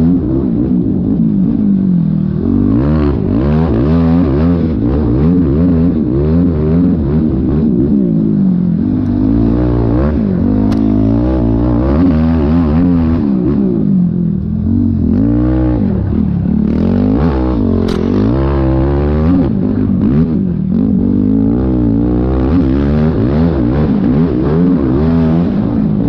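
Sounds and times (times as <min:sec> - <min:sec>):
quad engine revving: 0:02.3 - 0:07.9, 0:08.8 - 0:26.0.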